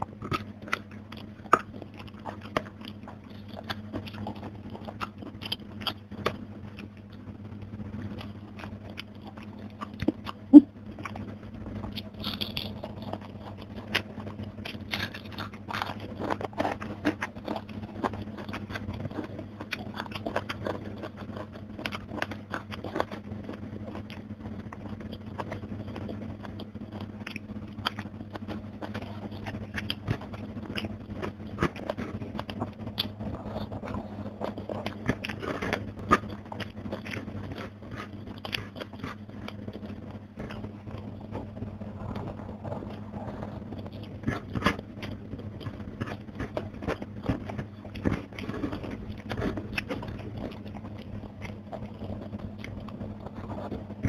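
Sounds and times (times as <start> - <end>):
chewing crispy fried fish: 0.0 - 54.0
steady low hum: 0.0 - 54.0.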